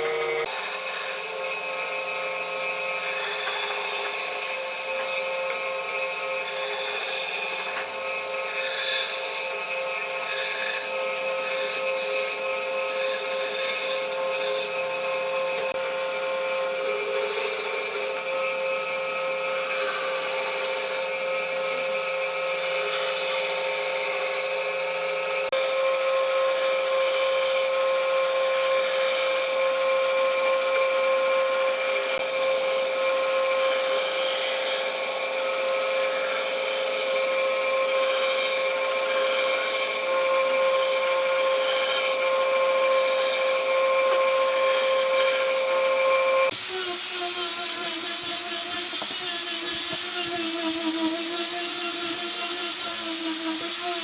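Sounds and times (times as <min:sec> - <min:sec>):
power tool whining on wood: 0:00.0 - 0:54.0.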